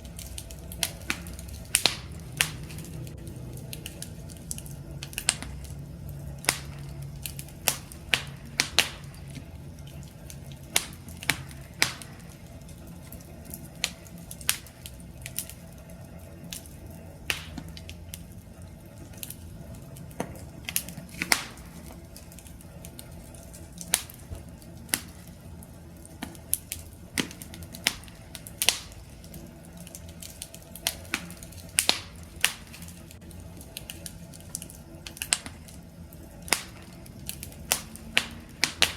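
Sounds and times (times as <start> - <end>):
campfire crackling and popping: 0.0 - 38.9
low rumble of flames: 0.0 - 38.9.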